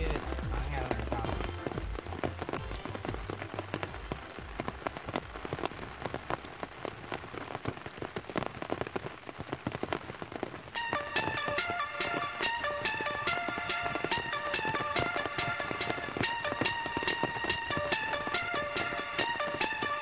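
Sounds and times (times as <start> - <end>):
raindrops pattering: 0.0 - 20.0.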